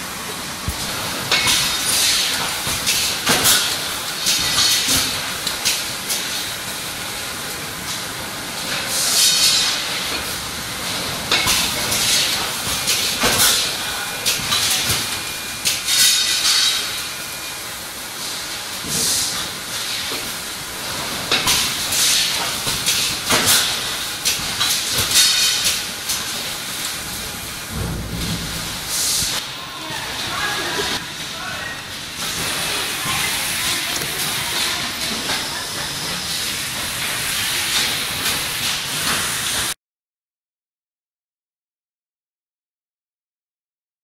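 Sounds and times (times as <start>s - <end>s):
packaging machine hissing: 0.4s - 27.8s, 28.6s - 29.4s, 31.9s - 39.7s.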